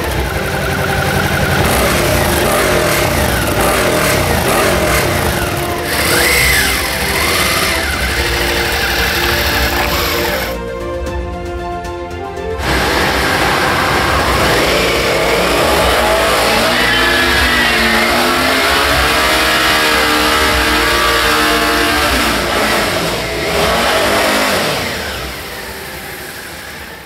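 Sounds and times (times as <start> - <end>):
motorcycle engine revving: 0.0 - 10.6, 12.6 - 27.0.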